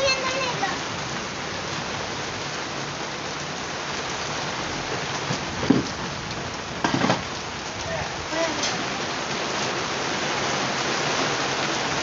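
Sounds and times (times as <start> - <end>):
rain on concrete: 0.0 - 12.0.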